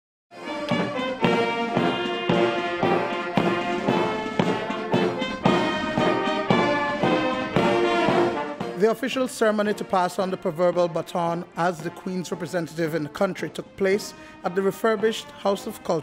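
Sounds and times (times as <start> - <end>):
military brass band march: 0.3 - 16.0.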